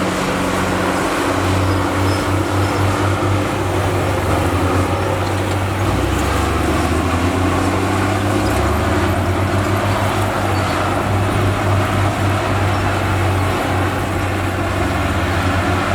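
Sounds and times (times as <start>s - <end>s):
diesel earthmoving machinery running: 0.0s - 15.9s.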